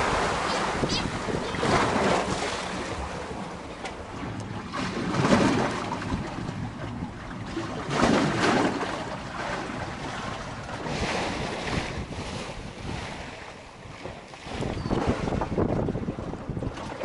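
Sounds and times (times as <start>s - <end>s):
waves washing against seawall: 0.0s - 17.0s
wind buffeting microphone: 0.0s - 17.0s.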